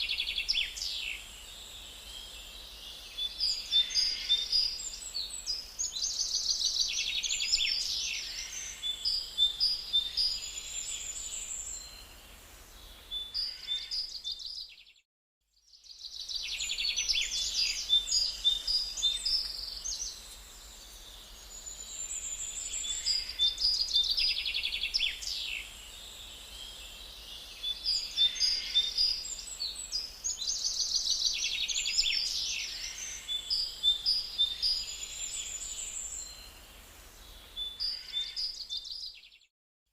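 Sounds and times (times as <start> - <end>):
faint background hiss: 0.0 - 14.6, 15.7 - 39.1
songbirds chirping and trilling: 0.0 - 15.0, 15.6 - 39.5.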